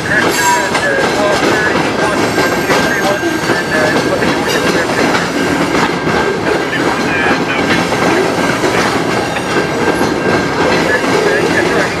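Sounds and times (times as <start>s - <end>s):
freight train rolling past: 0.0s - 12.0s
wheels clacking over rail joints: 0.0s - 12.0s.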